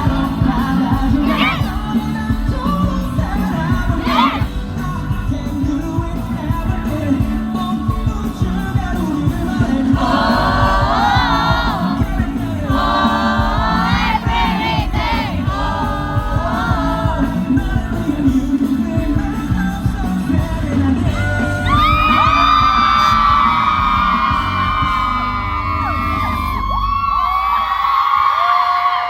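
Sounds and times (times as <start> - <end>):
amplified pop song with heavy bass: 0.0 - 29.0
crowd voices: 0.0 - 29.0.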